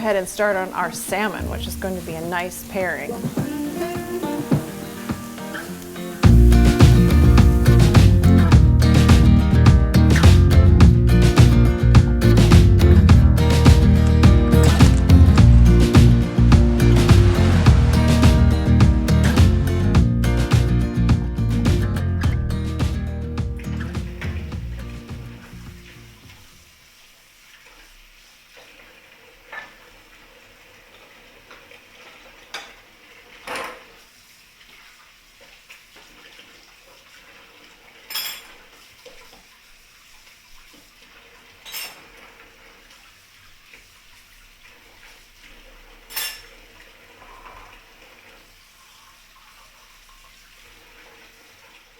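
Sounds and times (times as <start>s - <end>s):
faint steady hiss: 0.0s - 21.7s, 23.4s - 51.9s.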